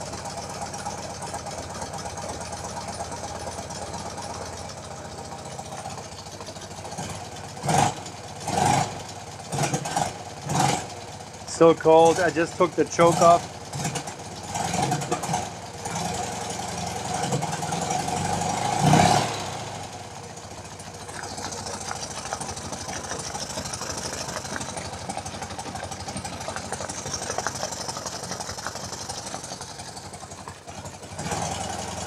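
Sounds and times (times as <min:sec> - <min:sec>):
motorcycle engine idling: 0:00.0 - 0:18.7, 0:19.3 - 0:32.0
light regular engine ticking: 0:00.0 - 0:32.0.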